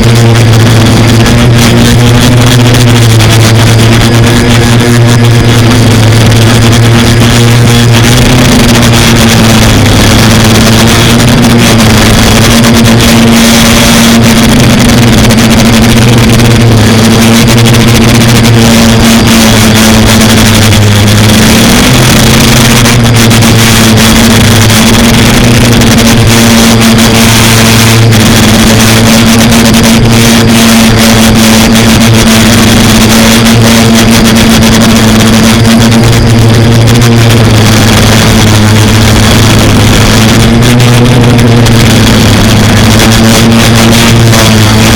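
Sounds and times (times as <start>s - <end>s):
drone motors buzzing: 0.0s - 44.9s.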